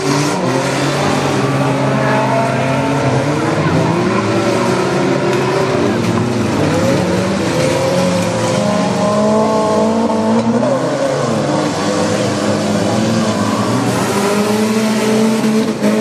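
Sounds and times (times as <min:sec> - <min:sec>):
race car engines revving: 0:00.0 - 0:16.0.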